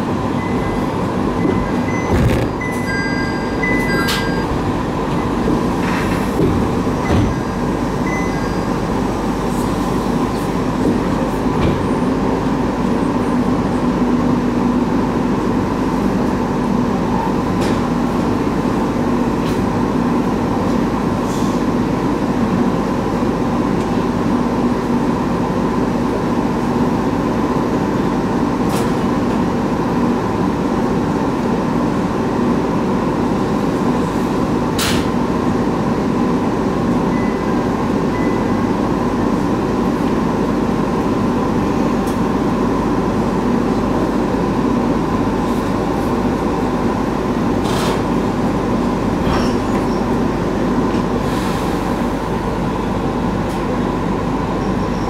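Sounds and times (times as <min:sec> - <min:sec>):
train carriage hum and rumble: 0:00.0 - 0:55.0.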